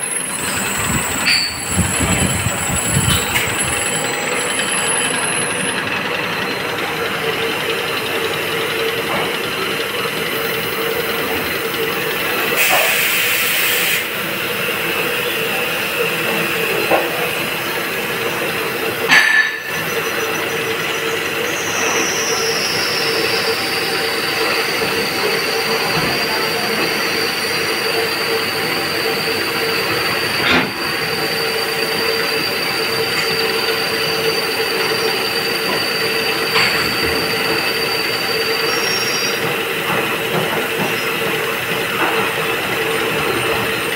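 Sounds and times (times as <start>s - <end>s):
high drilling squeal: 0.0s - 43.9s.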